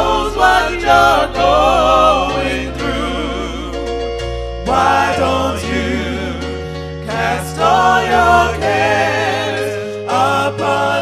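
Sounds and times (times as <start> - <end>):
bass line: 0.0 - 9.7
gospel singing with vibrato: 0.0 - 11.0
sustained chords: 0.0 - 11.0.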